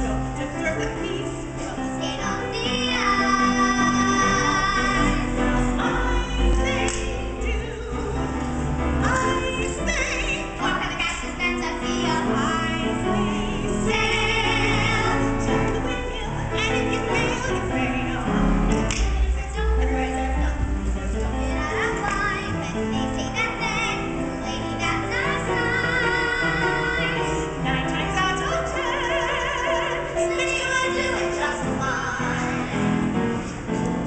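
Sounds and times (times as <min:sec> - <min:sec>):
woman and girls singing: 0:00.0 - 0:33.3
piano accompaniment: 0:00.0 - 0:34.0.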